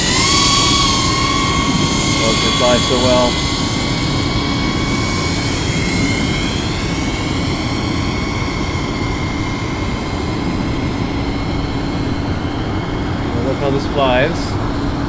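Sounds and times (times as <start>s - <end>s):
drone propellers whining: 0.0s - 15.0s
low rumble: 0.0s - 15.0s.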